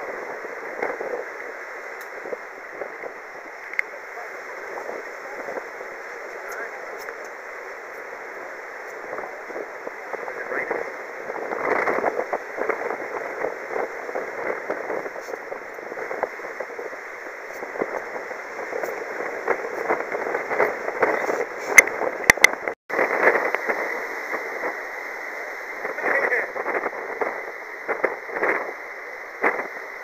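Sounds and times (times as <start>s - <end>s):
wind and sea noise: 0.0s - 30.0s.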